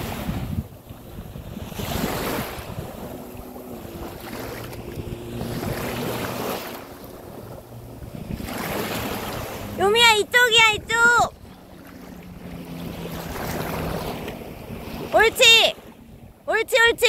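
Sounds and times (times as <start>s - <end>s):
waves washing onto sandy beach: 0.0s - 16.5s
wind buffeting microphone: 0.0s - 17.0s.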